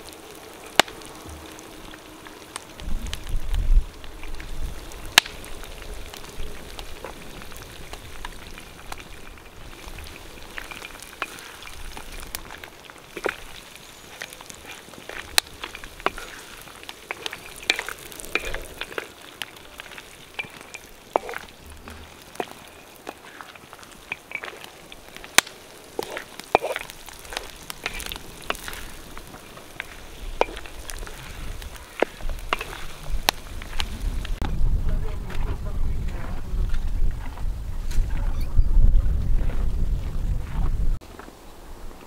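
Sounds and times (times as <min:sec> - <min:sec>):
food frying in oil: 0:00.0 - 0:34.5.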